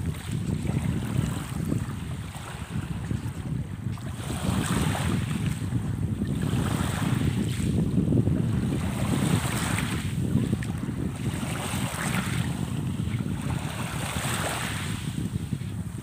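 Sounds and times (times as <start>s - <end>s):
sea water washing in swells: 0.0s - 16.0s
wind rumble on microphone: 0.0s - 16.0s.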